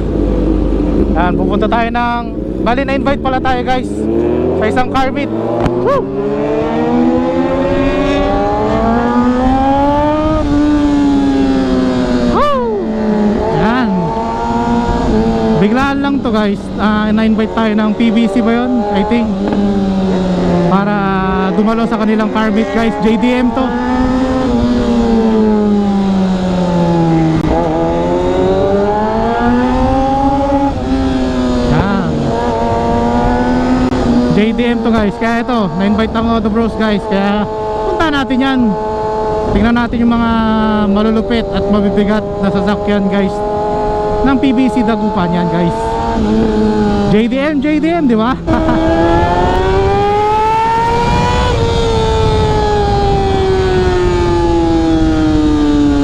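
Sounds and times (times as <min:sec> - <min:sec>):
motorcycle engine accelerating: 0:00.0 - 0:56.0
wind rumble on microphone: 0:00.0 - 0:56.0.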